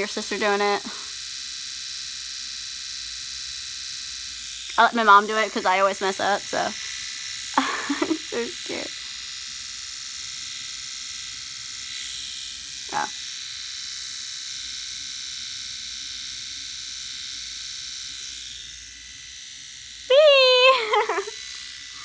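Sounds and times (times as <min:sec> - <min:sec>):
electric trimmer buzzing: 0:00.0 - 0:22.0.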